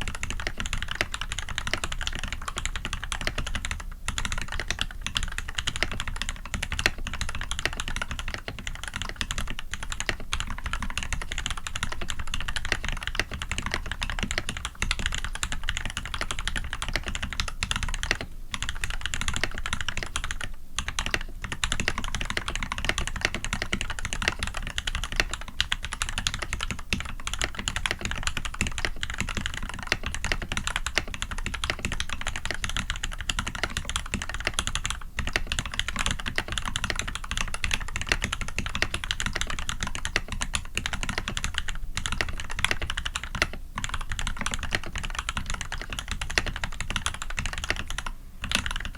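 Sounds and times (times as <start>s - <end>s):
fast mechanical keyboard typing: 0.0s - 48.9s.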